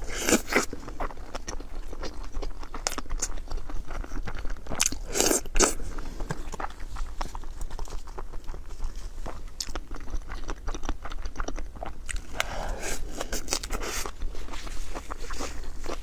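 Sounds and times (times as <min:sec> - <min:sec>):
chewing and biting food: 0:00.0 - 0:16.0.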